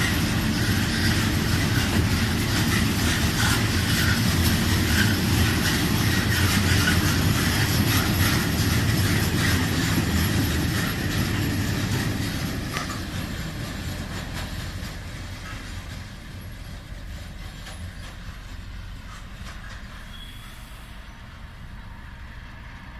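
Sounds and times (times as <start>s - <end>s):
wheels clicking over rail joints: 0.0s - 20.6s
freight train rolling past: 0.0s - 22.9s
train wheel squeal: 0.0s - 22.9s.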